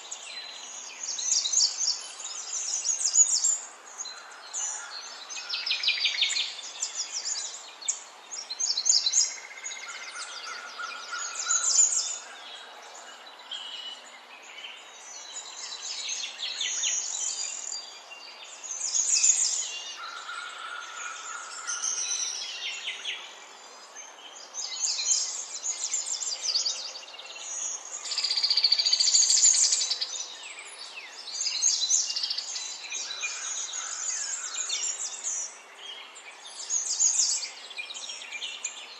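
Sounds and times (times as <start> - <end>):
faint background hiss: 0.0 - 38.9
songbirds singing and chirping: 0.0 - 38.9.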